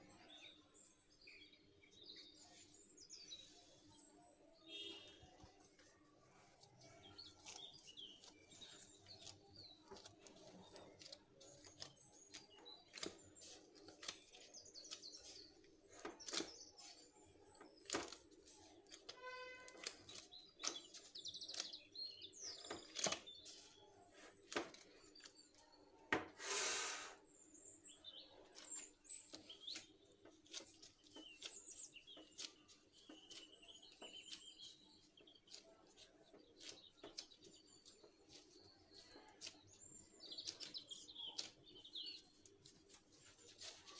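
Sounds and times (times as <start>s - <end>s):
faint birds chirping: 0.0s - 43.9s
hands kneading bread dough: 1.6s - 26.5s, 27.1s - 43.9s.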